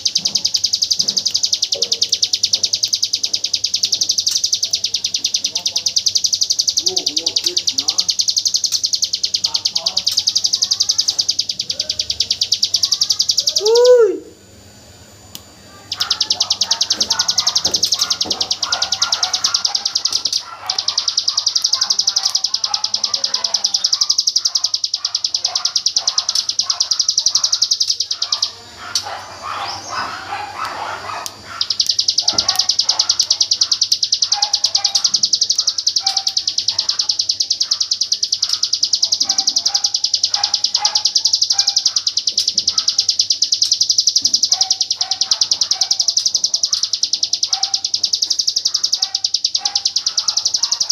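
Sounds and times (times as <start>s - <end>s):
bird rapid rattling song: 0.0s - 13.8s, 15.9s - 50.9s
other birds chirping: 0.0s - 14.0s, 15.8s - 50.9s.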